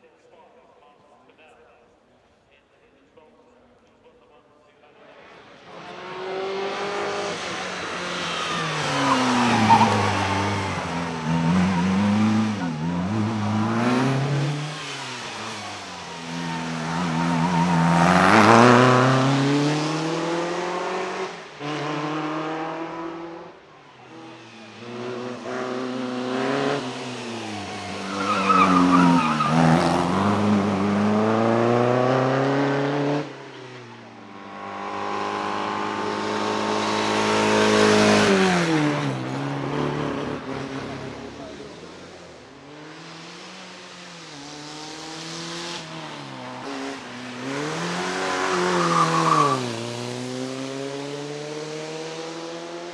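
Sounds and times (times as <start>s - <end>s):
racing car engines revving past: 5.2s - 52.9s.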